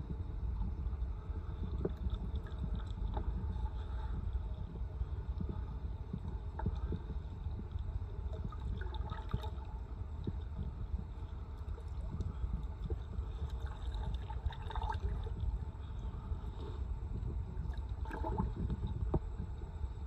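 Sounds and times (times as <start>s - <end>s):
small water ticks: 0.0s - 20.0s
water lapping against hull: 0.0s - 20.0s
wind rumble: 0.0s - 20.0s.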